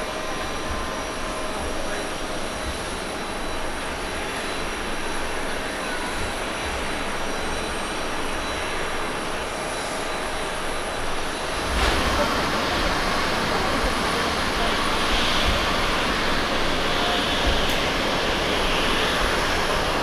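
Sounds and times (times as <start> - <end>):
distant jet engine rumble: 0.0 - 20.0
jet plane on approach: 0.0 - 20.0.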